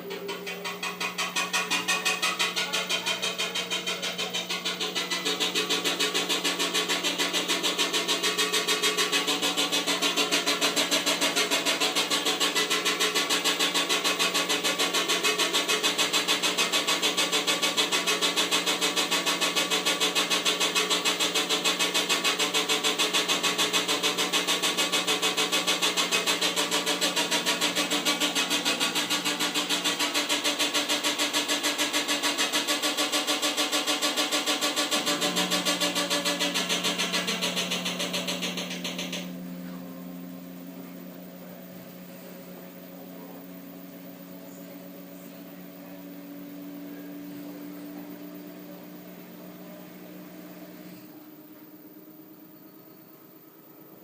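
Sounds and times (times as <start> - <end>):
washing machine running: 0.0 - 54.0.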